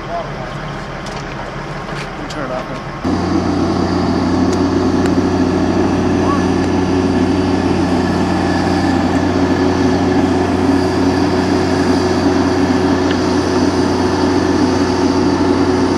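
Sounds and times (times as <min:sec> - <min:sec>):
crane engine humming: 0:00.0 - 0:15.9.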